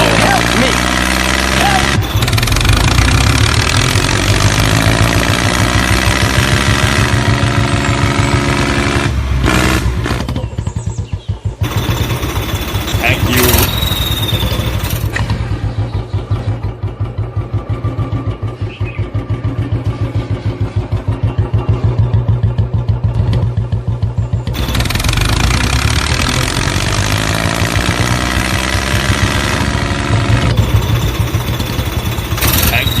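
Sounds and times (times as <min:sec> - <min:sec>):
engine chugging: 0:00.0 - 0:33.0.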